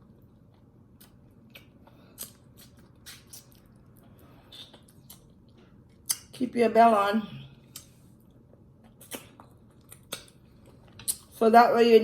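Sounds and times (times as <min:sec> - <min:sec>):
person chewing: 0:00.1 - 0:06.3, 0:07.6 - 0:11.4.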